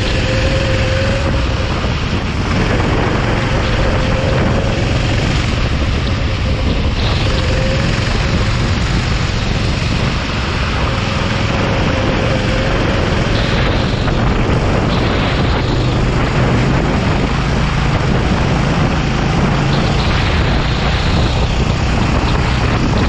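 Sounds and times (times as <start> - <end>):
faint kart engine: 0.0 - 23.0
wind rushing on microphone: 0.0 - 23.0.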